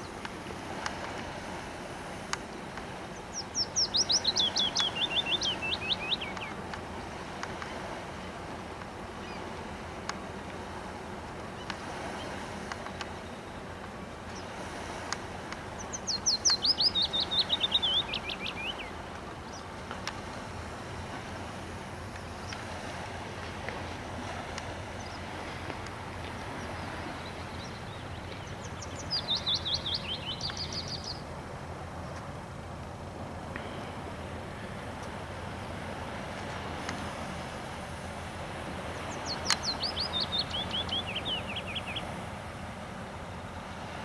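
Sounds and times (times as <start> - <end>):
songbird singing: 0.0 - 32.4, 33.2 - 44.0.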